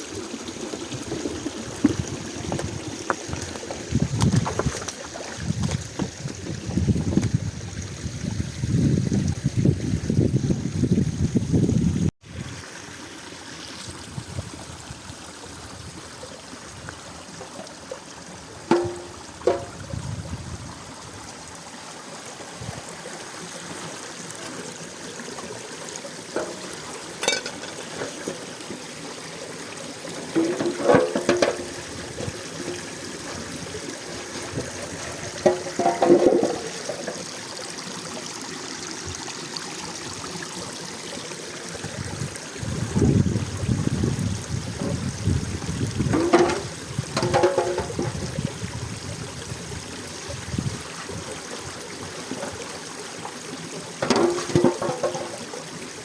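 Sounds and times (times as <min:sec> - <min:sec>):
spring water running and trickling: 0:00.0 - 0:56.0.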